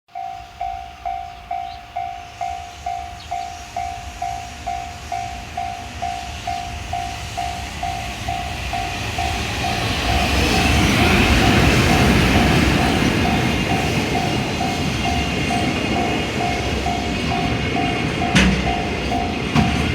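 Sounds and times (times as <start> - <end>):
freight train rumble: 0.1 - 19.9
level-crossing warning bell: 0.1 - 19.9.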